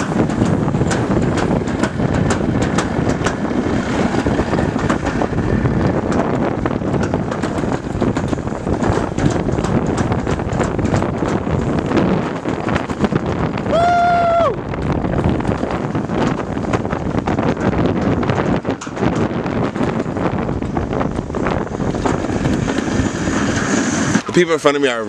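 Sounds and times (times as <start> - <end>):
sled runners rumbling on metal track: 0.0 - 25.0
wind buffeting microphone: 0.0 - 25.0.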